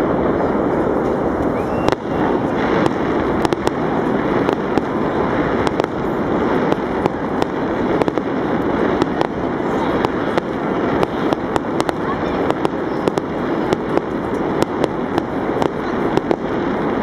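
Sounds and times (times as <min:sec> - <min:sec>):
fireworks cracking: 0:00.0 - 0:17.0.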